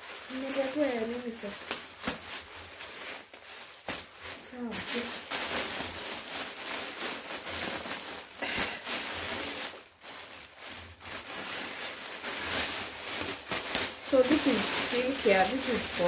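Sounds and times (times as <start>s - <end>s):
plastic bag rustling and crinkling: 0.0s - 16.0s.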